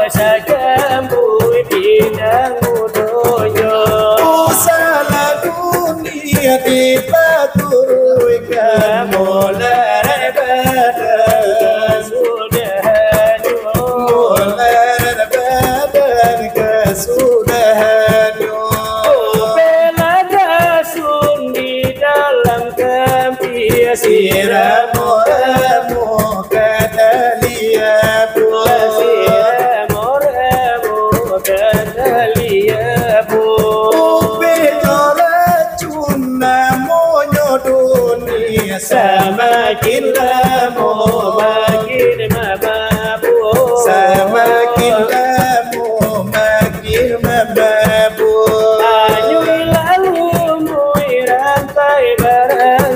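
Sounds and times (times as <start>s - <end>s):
brass trays beaten by hand: 0.0s - 52.9s
men singing devotional song: 0.0s - 52.9s.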